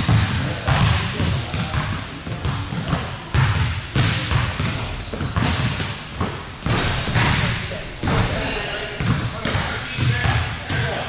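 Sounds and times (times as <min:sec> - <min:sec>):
basketball bouncing on hardwood: 0:00.0 - 0:08.4, 0:09.0 - 0:11.0
sneakers squeaking: 0:00.0 - 0:11.0.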